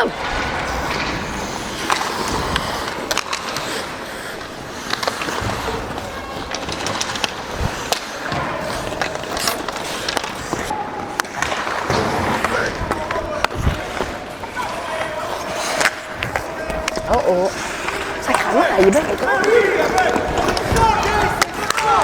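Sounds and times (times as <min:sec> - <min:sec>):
hockey sticks and puck clacking: 0:00.0 - 0:22.0
skate blades scraping ice: 0:00.0 - 0:22.0.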